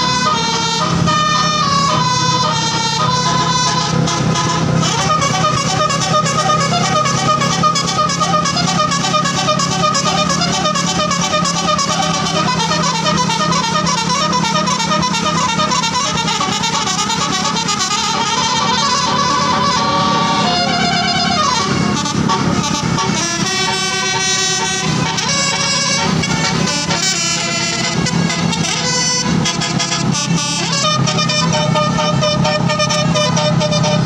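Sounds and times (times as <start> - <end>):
bus horn melody: 0.0 - 34.0.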